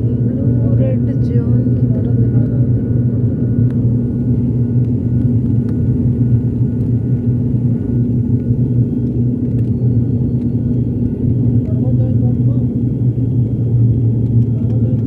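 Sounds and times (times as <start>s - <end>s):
airplane taking off: 0.0s - 15.0s.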